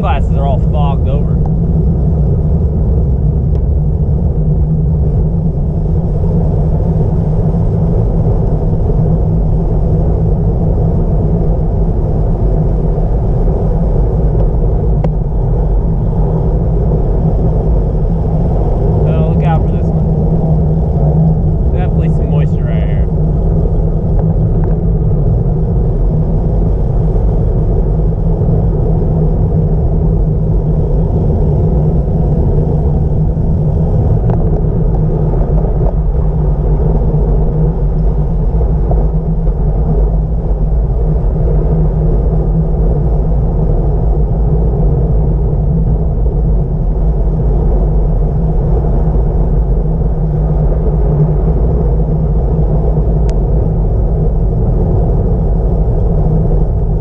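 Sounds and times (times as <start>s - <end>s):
wind rushing on microphone: 0.0s - 57.0s.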